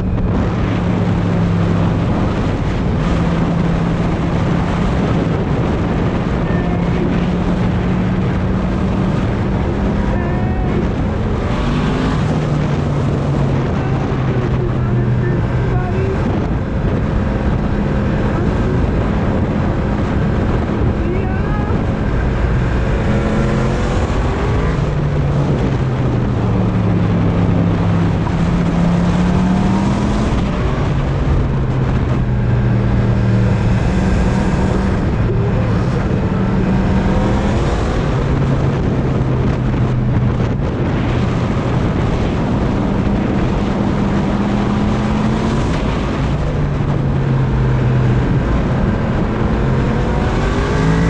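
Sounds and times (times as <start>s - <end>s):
motorcycle engine revving: 0.0s - 51.0s
wind rushing over microphone: 0.0s - 51.0s.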